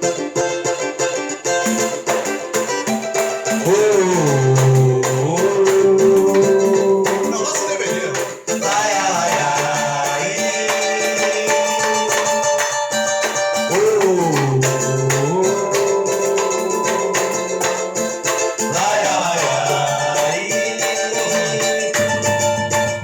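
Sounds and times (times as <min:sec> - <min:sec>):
shaker and jingle percussion: 0:00.8 - 0:23.0
band playing instrumental: 0:01.6 - 0:23.0
sliding melodic line: 0:02.9 - 0:23.0.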